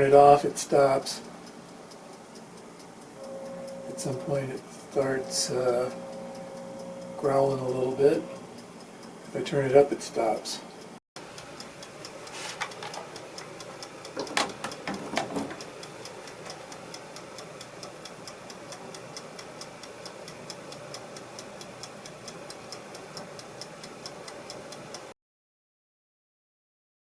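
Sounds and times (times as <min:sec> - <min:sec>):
faint steady hum: 0:00.0 - 0:25.1
steady ticking: 0:00.0 - 0:25.1.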